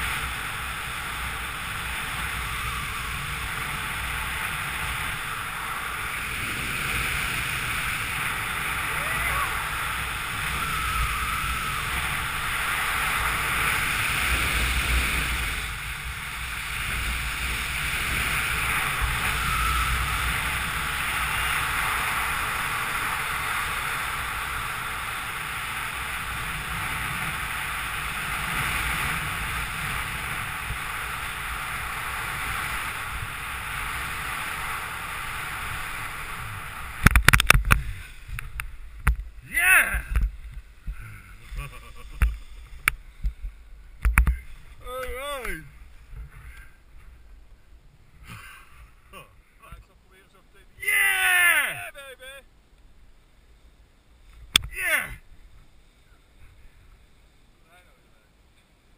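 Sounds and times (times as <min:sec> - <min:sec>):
wind rushing over microphone: 0:00.0 - 0:48.4.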